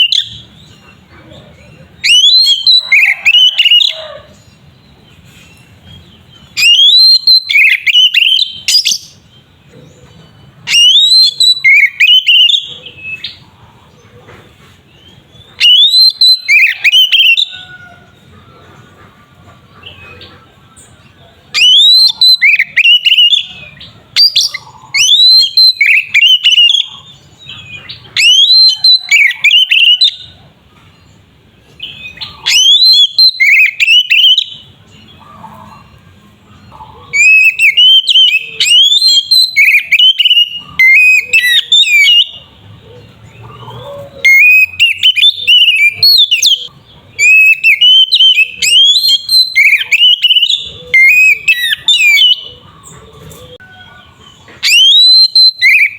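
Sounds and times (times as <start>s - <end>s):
songbird whistling song: 0.0s - 1.0s, 1.8s - 13.5s, 14.9s - 18.1s, 19.8s - 36.0s, 36.6s - 55.9s.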